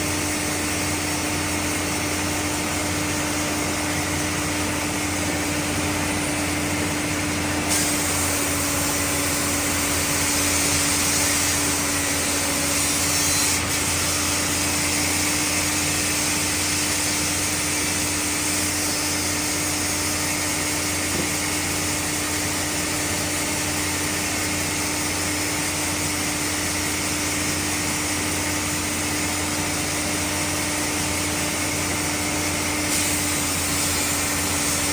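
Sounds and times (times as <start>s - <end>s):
sawmill machinery humming: 0.0s - 34.9s
bright hiss: 0.1s - 34.9s.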